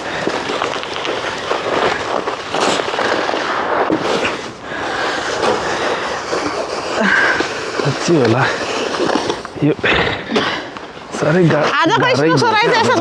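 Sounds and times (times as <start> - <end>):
snow shovel scraping snow: 0.0 - 10.2, 11.2 - 13.0.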